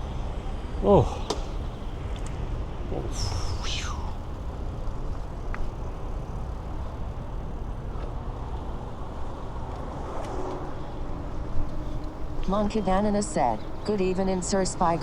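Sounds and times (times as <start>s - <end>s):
city traffic rumble: 0.0s - 15.0s
wind noise: 0.0s - 15.0s.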